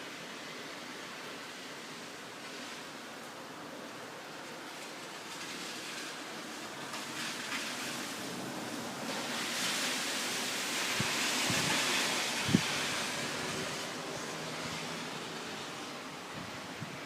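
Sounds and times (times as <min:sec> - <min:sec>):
rain and wind hiss: 0:00.0 - 0:17.0.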